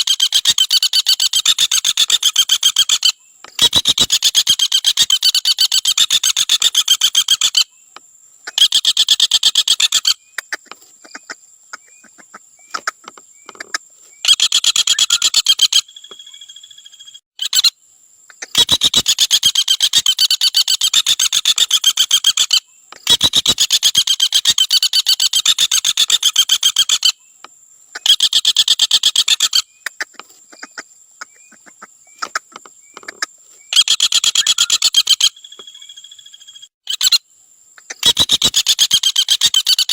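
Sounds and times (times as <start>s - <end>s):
woodpecker rattling trill: 0.0s - 17.7s, 18.3s - 27.3s, 27.9s - 37.2s, 37.8s - 39.9s.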